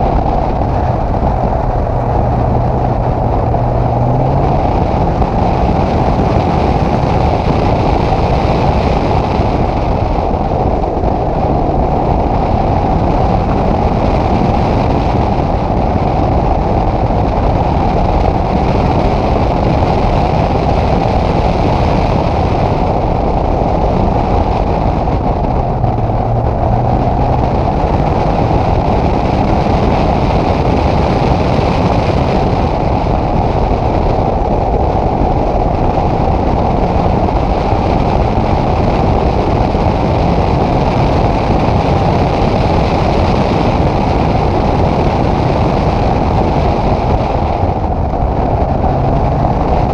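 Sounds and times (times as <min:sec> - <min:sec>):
car engine driving hard: 0:00.0 - 0:49.9
loud rushing noise: 0:00.0 - 0:49.9.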